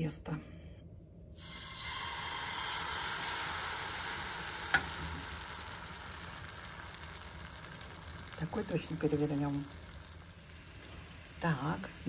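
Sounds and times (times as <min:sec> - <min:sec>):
batter sizzling in frying pan: 0:01.4 - 0:12.0.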